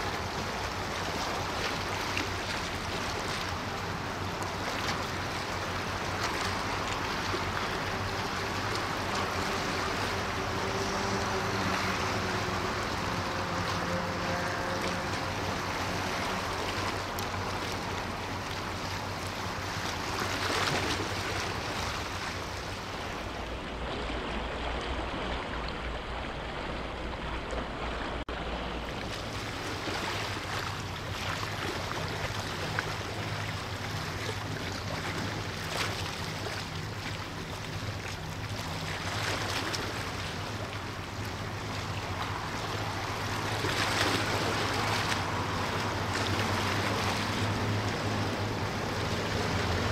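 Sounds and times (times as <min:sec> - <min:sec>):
ship engines humming: 0:00.0 - 0:49.9
waves washing: 0:00.0 - 0:49.9.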